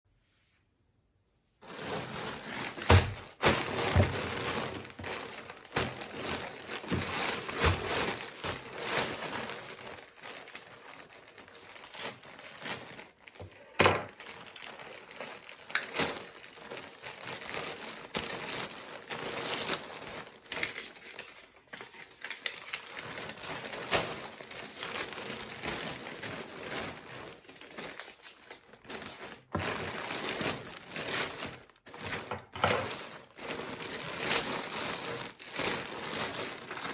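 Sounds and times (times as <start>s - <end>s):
packaging crinkling and rustling: 1.6s - 36.9s.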